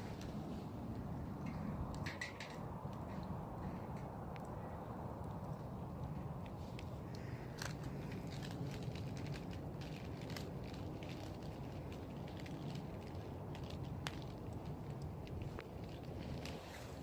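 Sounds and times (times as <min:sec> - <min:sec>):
bonfire crackling and popping: 0:00.0 - 0:16.8.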